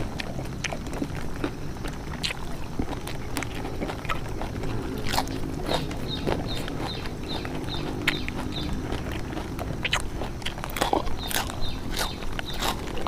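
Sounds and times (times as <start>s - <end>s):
chewing crisp leaves: 0.0s - 13.0s.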